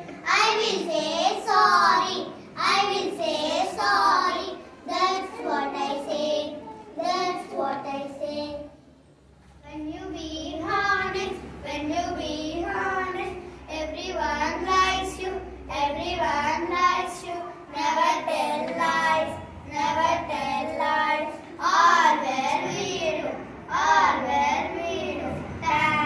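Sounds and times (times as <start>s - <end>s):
children singing: 0.0s - 8.8s, 9.9s - 26.0s.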